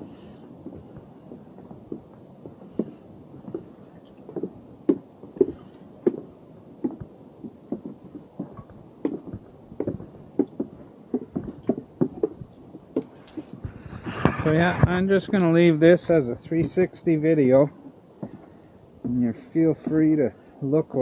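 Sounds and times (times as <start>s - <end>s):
footsteps on a trail: 0.0s - 21.0s.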